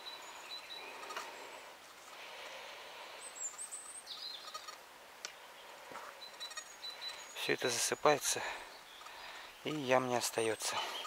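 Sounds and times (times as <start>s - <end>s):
faint steady outdoor hiss: 0.0s - 11.0s
songbirds chirping: 0.0s - 11.0s.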